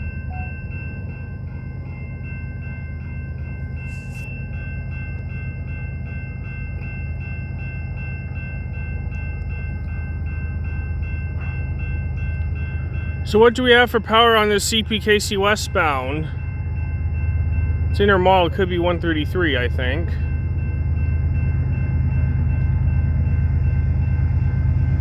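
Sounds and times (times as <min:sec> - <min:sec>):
level crossing bell ringing: 0:00.0 - 0:23.9
freight train rumble: 0:00.0 - 0:25.0.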